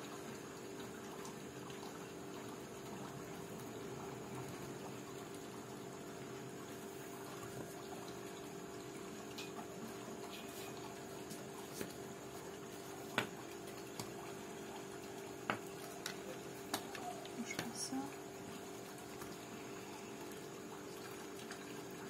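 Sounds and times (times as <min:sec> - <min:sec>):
low hum and hiss: 0:00.0 - 0:22.0.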